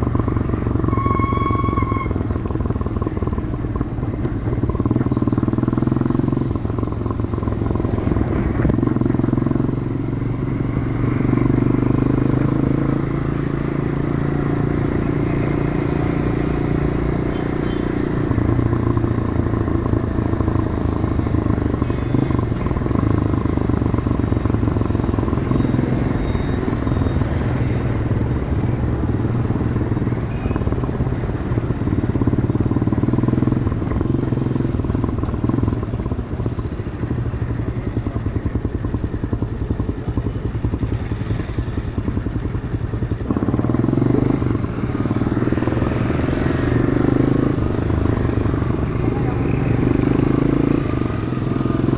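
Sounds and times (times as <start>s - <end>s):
motorcycle engine running while riding: 0.0s - 51.9s.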